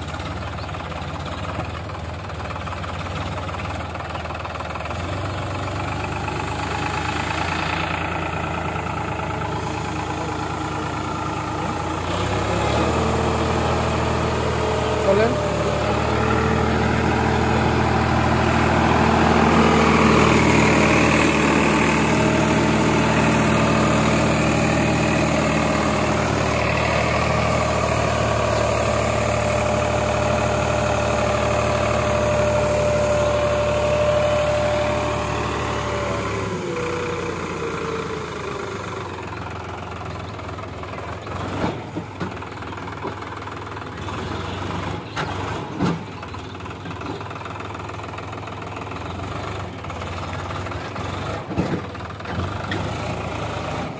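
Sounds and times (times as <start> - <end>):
tractor diesel engine whining: 0.0 - 53.9.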